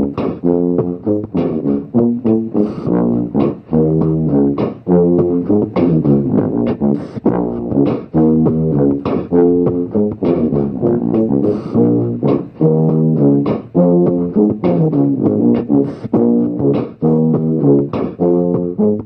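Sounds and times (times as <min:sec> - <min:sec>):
beatboxed percussion hits: 0:00.0 - 0:19.0
looped tuba bass line: 0:00.0 - 0:19.0.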